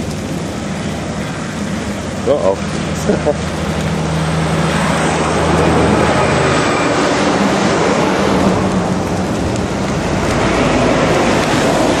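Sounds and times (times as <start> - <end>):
falling hail: 0.0 - 12.0
truck engine hum: 0.0 - 12.0
wind: 0.0 - 12.0.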